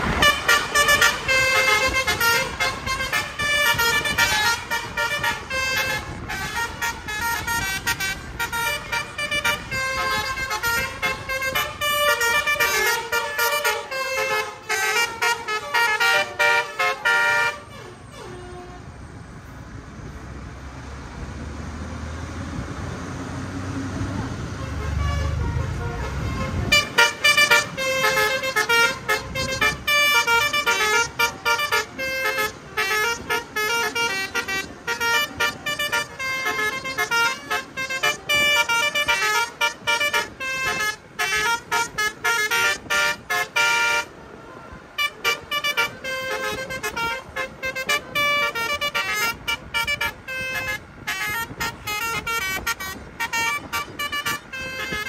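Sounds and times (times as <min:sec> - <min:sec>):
bus melody horns playing a tune: 0:00.0 - 0:19.2, 0:24.4 - 0:55.0.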